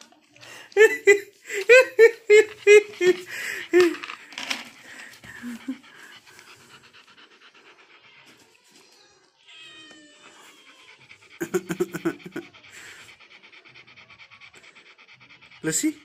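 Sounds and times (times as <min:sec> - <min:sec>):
dog panting rapidly: 0:00.0 - 0:08.9, 0:10.2 - 0:16.0.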